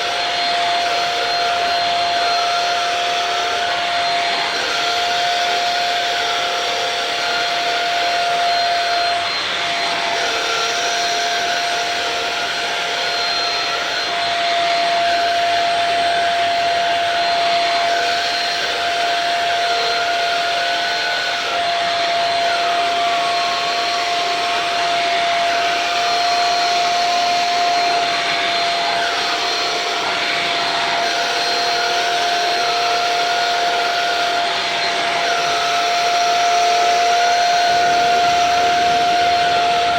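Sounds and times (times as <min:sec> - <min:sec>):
vacuum cleaner whine: 0:00.0 - 0:39.9.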